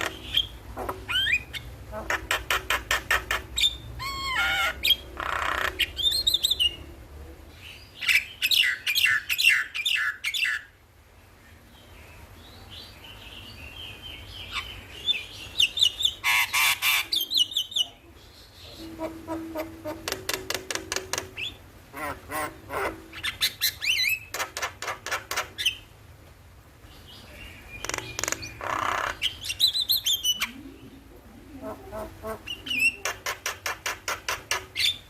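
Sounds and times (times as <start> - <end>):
myna bird song: 0.0 - 6.9, 7.5 - 10.8, 11.4 - 25.9, 26.8 - 35.0.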